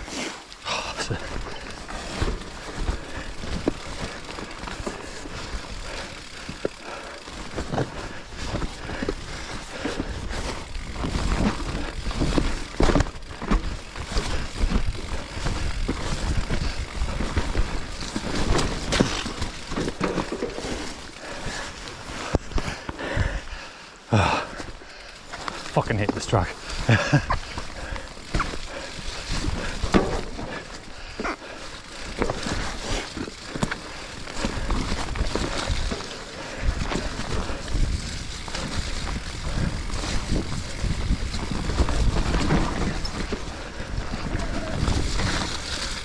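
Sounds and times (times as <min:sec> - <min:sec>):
bike knocks and rattles: 0:00.7 - 0:23.5, 0:24.2 - 0:46.0.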